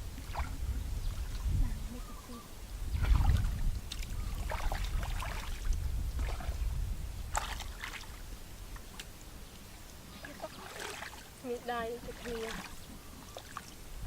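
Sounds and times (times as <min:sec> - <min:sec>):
water sloshing and splashing: 0:00.2 - 0:02.0, 0:02.9 - 0:13.9.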